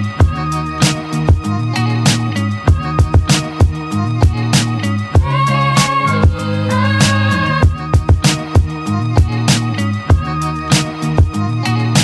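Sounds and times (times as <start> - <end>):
held bass notes: 0.0 - 10.5.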